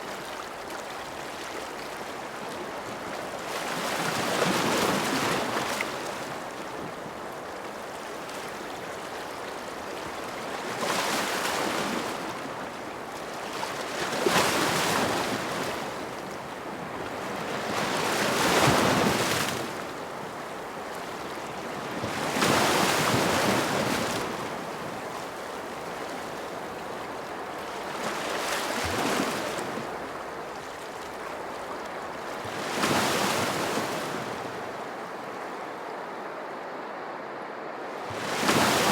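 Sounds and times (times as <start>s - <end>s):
ocean waves breaking: 0.0s - 37.1s, 37.9s - 38.9s.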